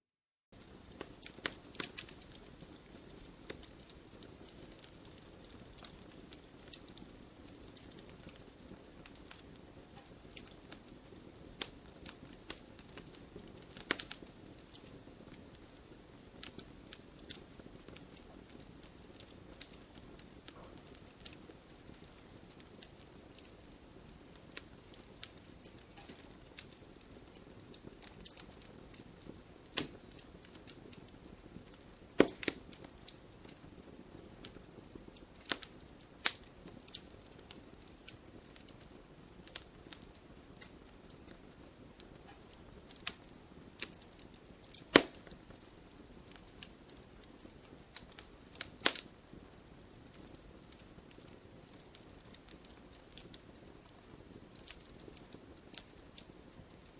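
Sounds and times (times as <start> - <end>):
campfire crackling and popping: 0.5 - 56.9
low steady hiss: 0.5 - 56.9.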